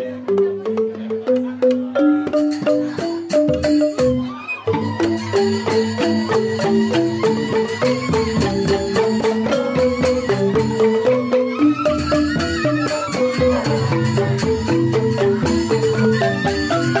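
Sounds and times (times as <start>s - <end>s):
bamboo xylophones: 0.0s - 17.0s
bamboo flutes melody: 1.8s - 17.0s.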